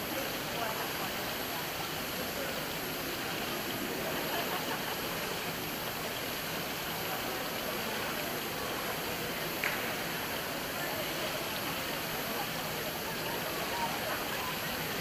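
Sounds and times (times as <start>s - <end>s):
crowd murmur indoors: 0.0s - 15.0s.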